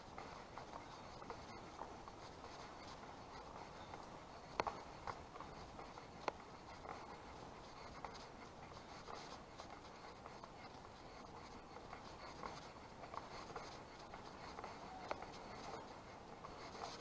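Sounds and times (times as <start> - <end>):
footsteps on dirt path: 0.0 - 17.0
small scratchy ticks: 0.0 - 17.0.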